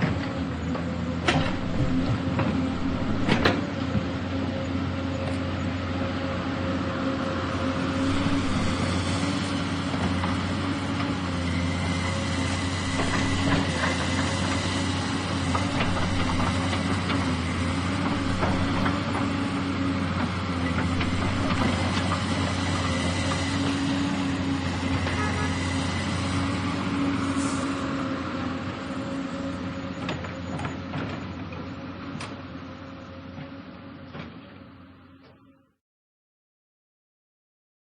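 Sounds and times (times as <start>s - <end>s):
excavator engine running: 0.3s - 32.0s.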